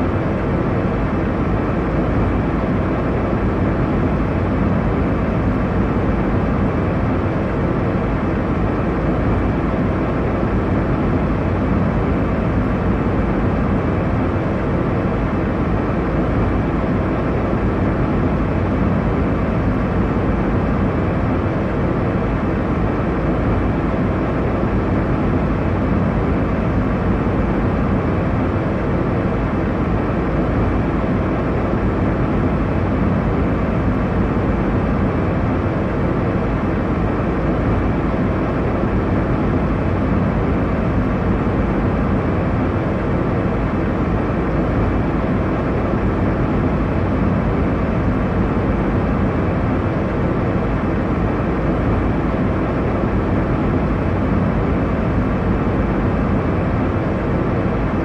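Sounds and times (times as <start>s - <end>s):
airliner cabin drone: 0.0s - 58.0s.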